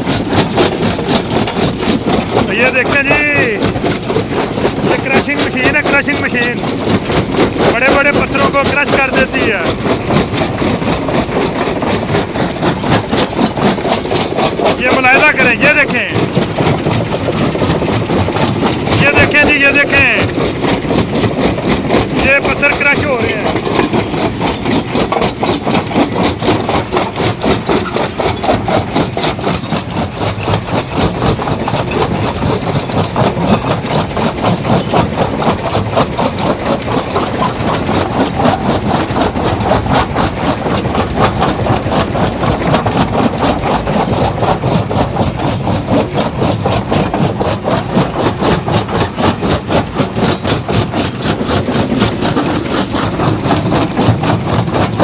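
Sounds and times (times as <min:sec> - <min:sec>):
machine drone: 0:00.0 - 0:55.0
stone crusher clatter: 0:00.0 - 0:55.0.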